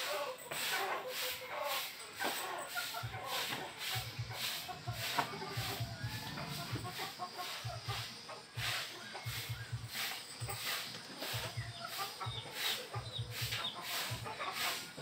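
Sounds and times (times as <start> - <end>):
chickens clucking: 0.0 - 15.0
pulsing hiss: 0.0 - 15.0.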